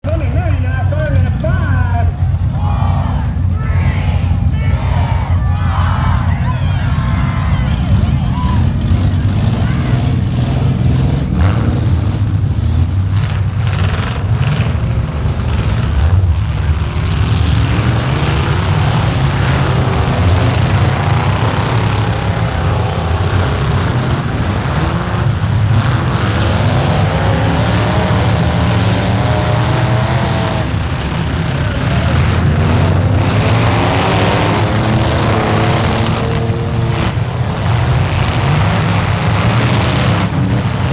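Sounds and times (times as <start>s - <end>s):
truck engines running: 0.0s - 40.9s.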